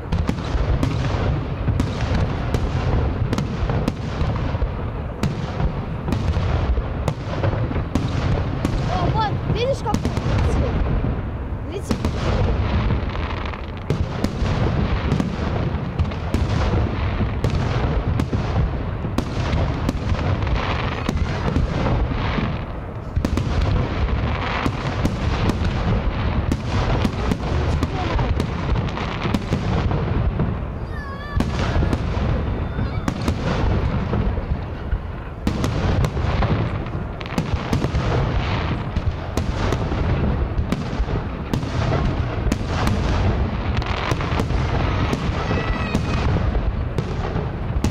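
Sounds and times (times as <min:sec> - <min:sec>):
continuous rumble: 0:00.0 - 0:47.9.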